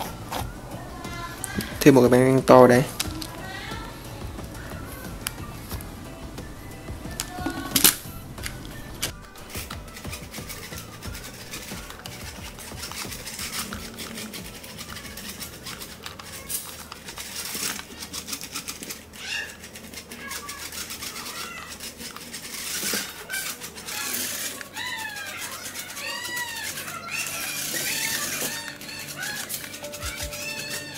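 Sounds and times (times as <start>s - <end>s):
toy car motor rattling: 0.0s - 30.9s.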